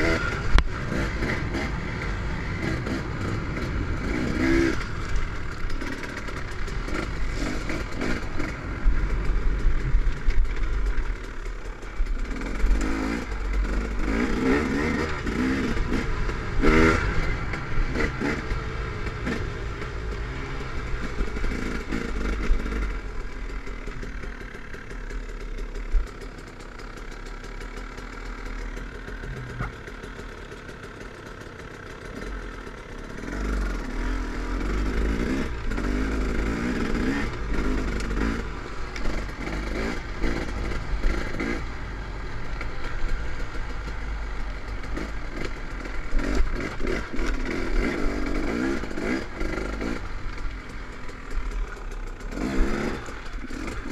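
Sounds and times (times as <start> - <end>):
dirt bike engine revving: 0.0 - 26.6, 27.4 - 30.8, 32.0 - 53.9.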